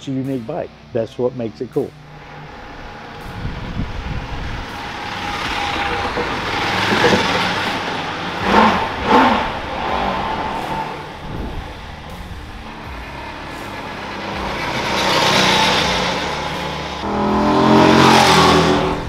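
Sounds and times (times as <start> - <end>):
motorcycle engine revving: 1.9 - 19.0.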